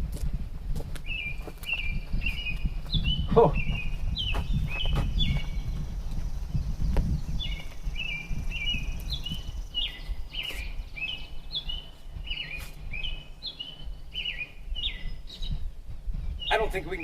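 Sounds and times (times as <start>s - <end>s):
songbird chirping: 1.0s - 17.0s.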